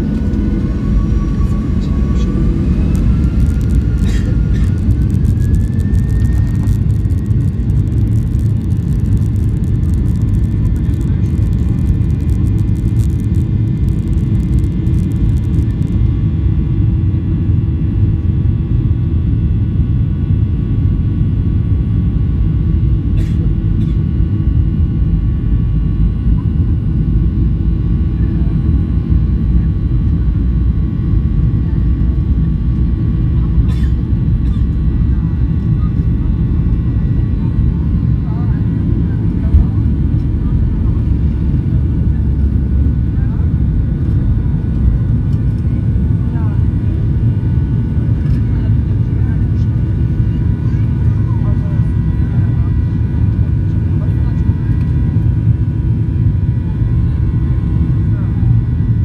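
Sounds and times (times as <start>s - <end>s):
jet engine rumble: 0.0s - 59.0s
jet engine whine: 0.0s - 59.0s.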